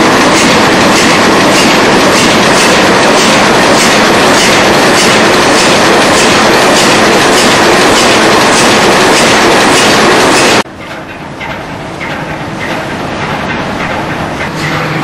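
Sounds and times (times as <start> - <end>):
ship diesel engine clatter: 0.0 - 15.0.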